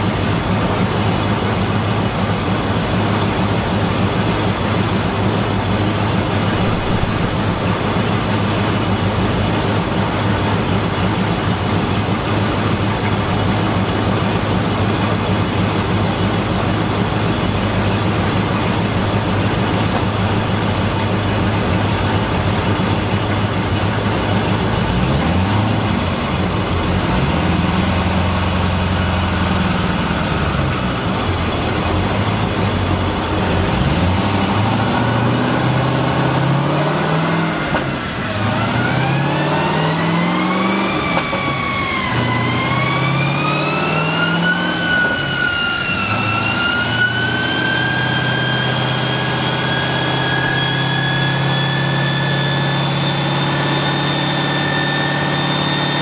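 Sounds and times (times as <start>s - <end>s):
car engine revving: 0.0s - 56.0s
high whine: 0.0s - 56.0s.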